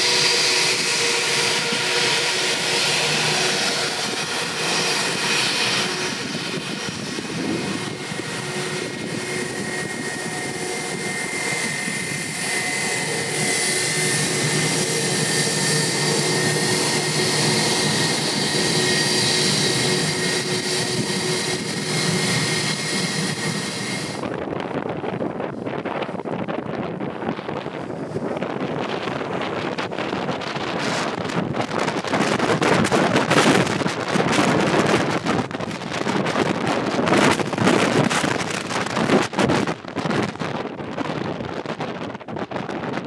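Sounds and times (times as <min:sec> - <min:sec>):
higher jet whine: 0:00.0 - 0:43.0
jet engines taxiing: 0:00.0 - 0:43.0.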